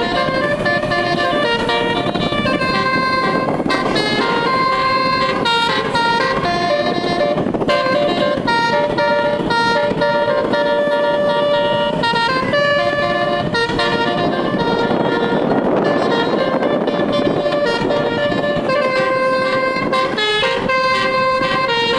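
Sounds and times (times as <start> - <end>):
multi-tone bus horn tune: 0.0 - 21.9.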